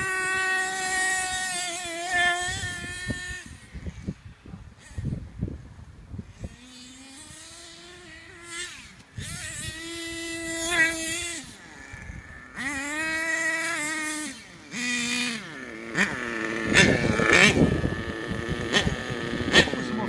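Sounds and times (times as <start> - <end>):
toy truck engine buzzing: 0.0 - 5.2, 6.3 - 20.0.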